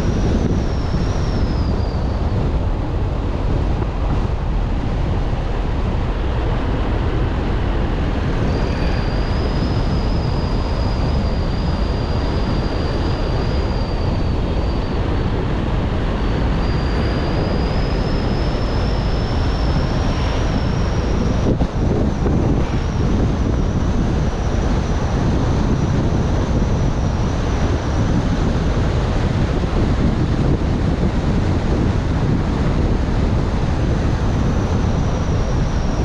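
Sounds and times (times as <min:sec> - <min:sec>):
road and wind noise: 0:00.0 - 0:36.0
thin high whine: 0:00.0 - 0:36.0.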